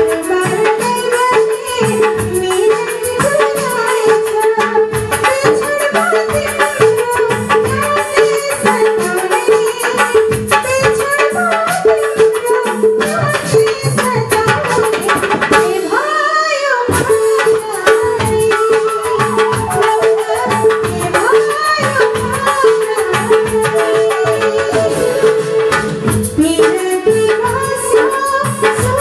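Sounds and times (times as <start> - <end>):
drum beat: 0.0 - 29.0
woman singing into microphone: 0.0 - 29.0.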